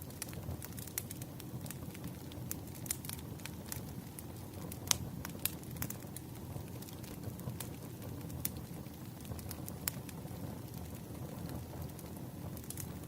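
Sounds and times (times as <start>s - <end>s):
low rumble of flames: 0.0s - 13.0s
wood crackling and popping: 0.0s - 13.0s.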